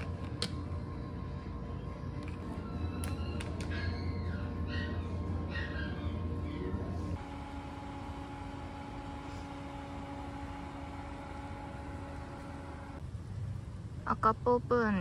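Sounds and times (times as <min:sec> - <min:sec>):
low indoor hum: 0:00.0 - 0:15.0
outdoor drone with steady tone: 0:00.0 - 0:15.0.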